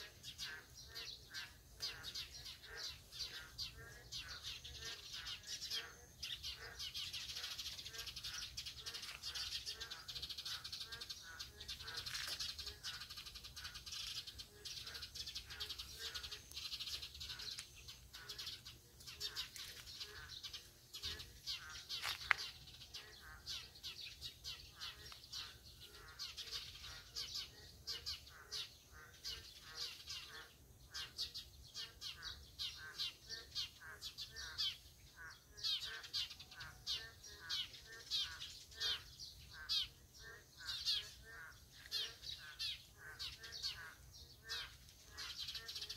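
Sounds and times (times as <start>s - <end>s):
frogs calling in chorus: 0.0s - 45.9s.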